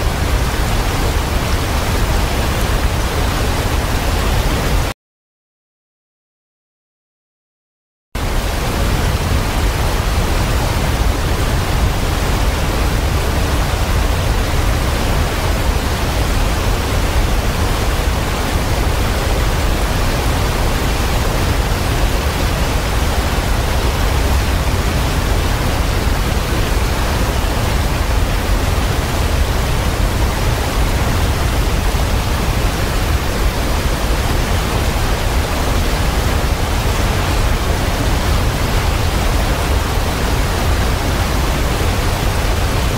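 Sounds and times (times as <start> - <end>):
waterfall rushing: 0.0 - 4.9, 8.2 - 42.9.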